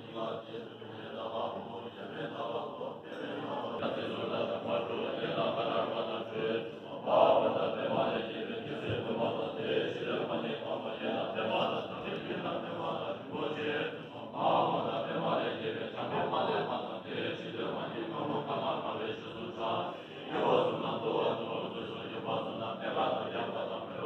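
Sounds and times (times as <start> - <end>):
group of monks chanting: 0.0 - 24.0.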